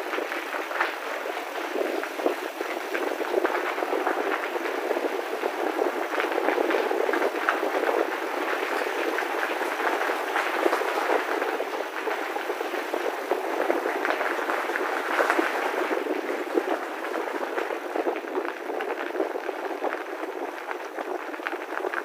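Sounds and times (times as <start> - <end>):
bicycle tyres rolling on gravel: 0.0 - 22.0.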